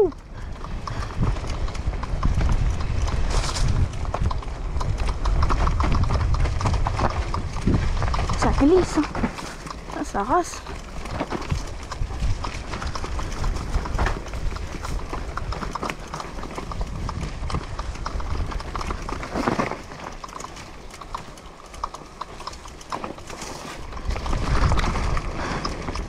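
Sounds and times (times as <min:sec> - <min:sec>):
bike knocks and rattles: 0:00.0 - 0:26.0
low wind rumble: 0:00.0 - 0:26.0
tyres on dirt: 0:00.0 - 0:26.0.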